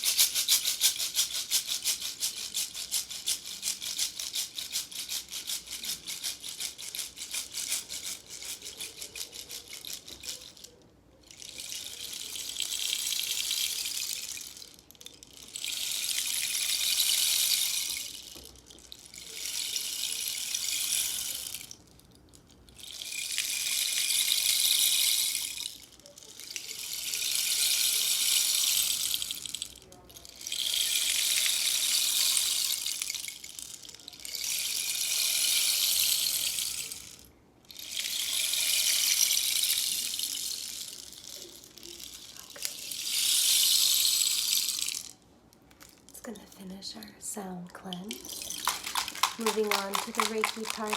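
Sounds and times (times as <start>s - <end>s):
rainstick rattling: 0.0s - 46.2s, 47.9s - 50.9s.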